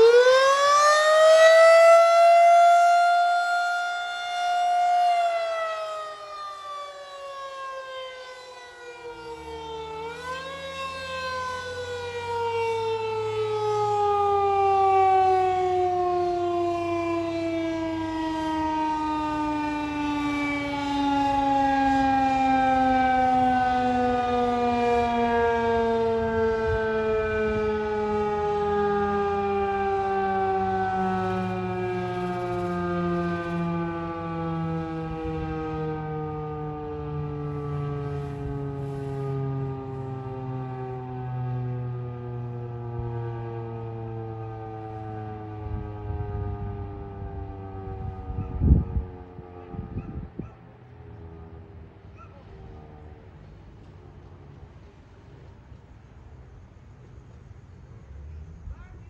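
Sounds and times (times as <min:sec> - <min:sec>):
rotating warning siren: 0:00.0 - 0:59.0.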